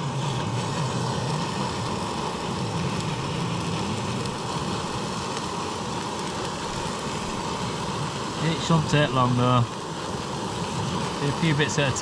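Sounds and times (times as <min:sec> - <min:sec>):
gas stove burner roaring: 0:00.0 - 0:12.0.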